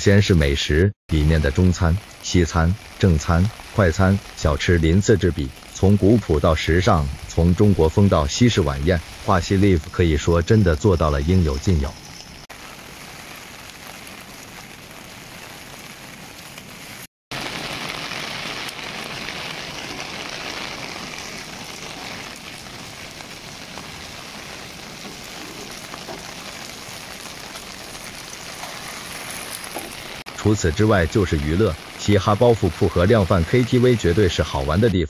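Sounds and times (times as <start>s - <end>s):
steady rain falling: 1.1s - 34.9s.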